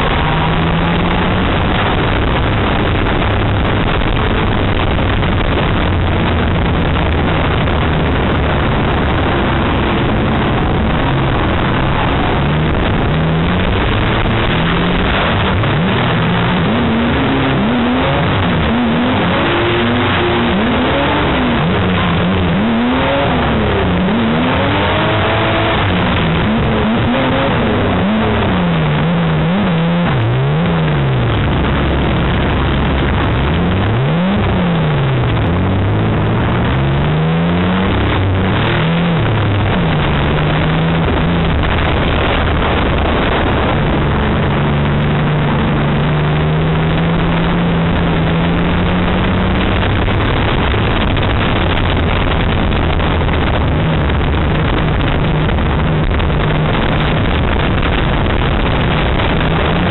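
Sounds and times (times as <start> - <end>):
racing car engine revving: 0.0 - 59.9
road and body noise: 0.0 - 59.9.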